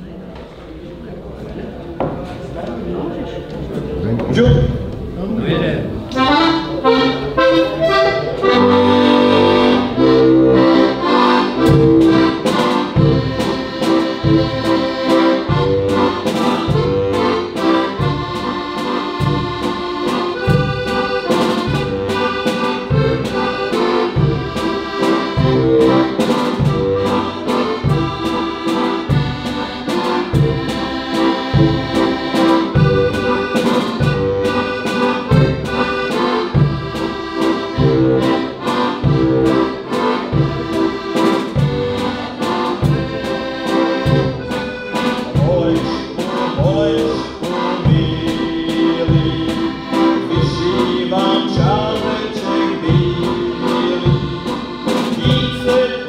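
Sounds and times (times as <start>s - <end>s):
button accordion folk tune: 6.1s - 56.0s
drum kit beat: 7.4s - 56.0s.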